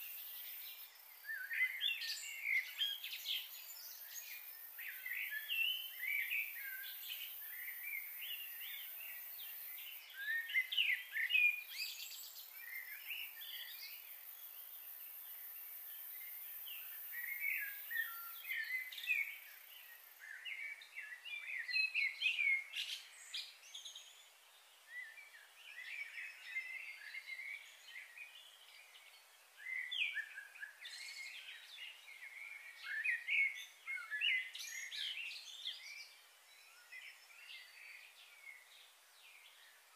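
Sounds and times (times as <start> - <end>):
background hiss: 0.0 - 39.9
small birds chirping: 0.0 - 39.9.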